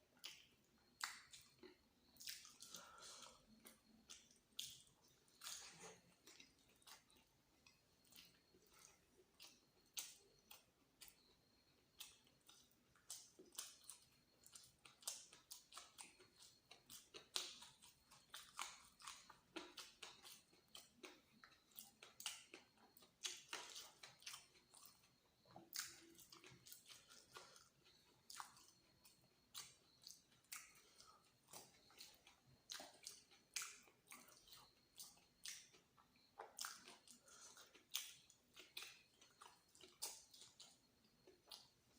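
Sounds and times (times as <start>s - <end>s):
close chewing and mouth sounds: 0.0s - 41.9s.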